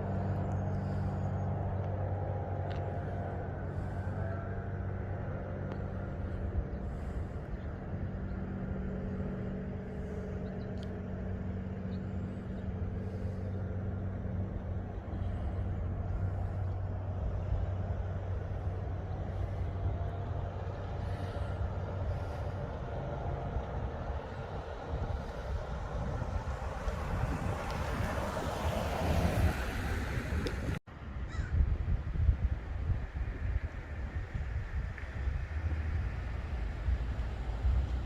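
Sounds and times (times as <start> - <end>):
road noise: 0.0 - 38.0
vehicle engine hum: 0.0 - 38.0.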